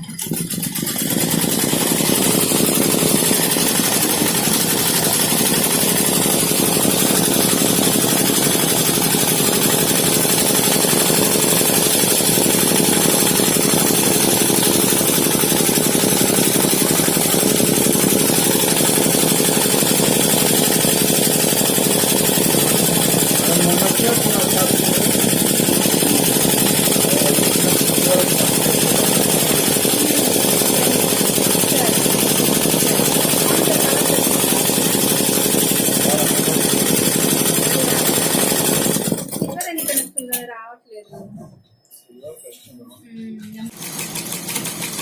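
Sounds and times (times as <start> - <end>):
embroidery machine stitching: 0.0 - 40.2, 43.7 - 45.0.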